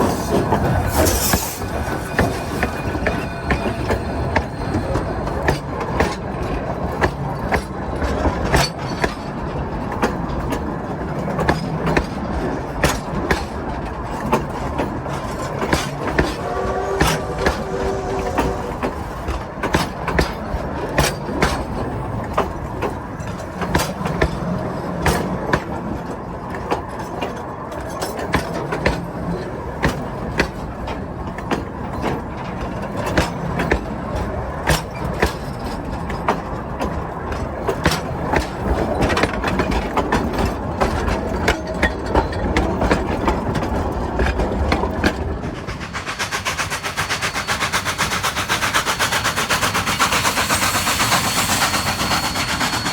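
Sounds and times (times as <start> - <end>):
train rumbling past: 0.0 - 52.9
wheels clicking over rail joints: 0.0 - 52.9.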